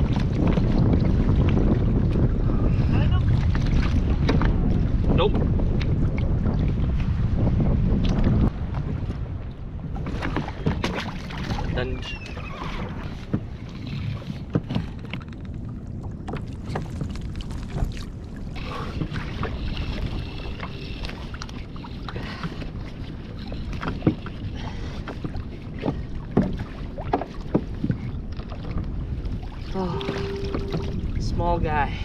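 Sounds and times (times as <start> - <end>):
water moving around kayak: 0.0 - 32.0
wind buffeting microphone: 0.0 - 32.0.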